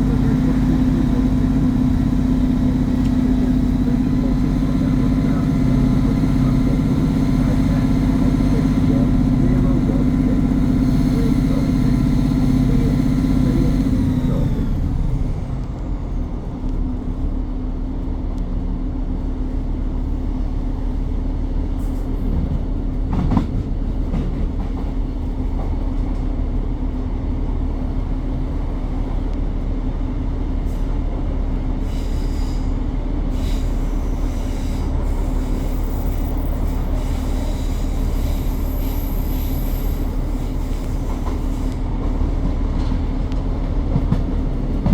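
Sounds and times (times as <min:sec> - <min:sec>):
diesel engine under power: 0:00.0 - 0:44.9
train rumbling on rails: 0:00.0 - 0:44.9.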